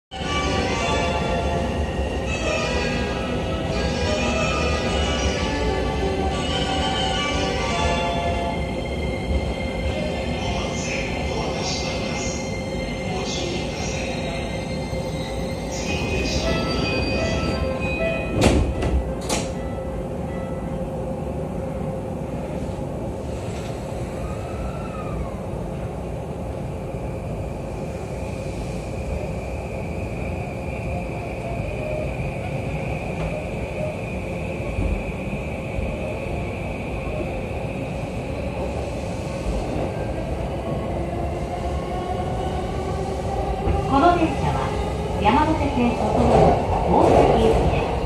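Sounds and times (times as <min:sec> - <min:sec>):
train wheel and rail rumble: 0:00.1 - 0:48.0.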